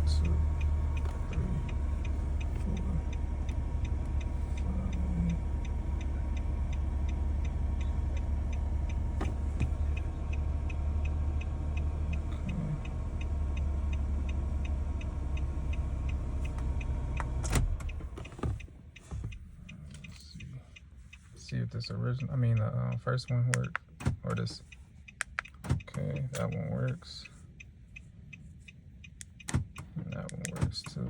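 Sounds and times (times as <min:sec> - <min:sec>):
car engine idling: 0:00.0 - 0:31.0
engine ticking: 0:00.0 - 0:31.0.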